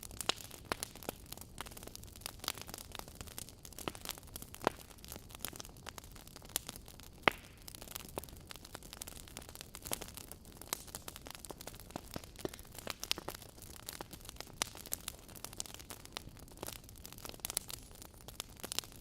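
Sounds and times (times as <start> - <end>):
wood fire hissing and crackling: 0.0 - 19.0.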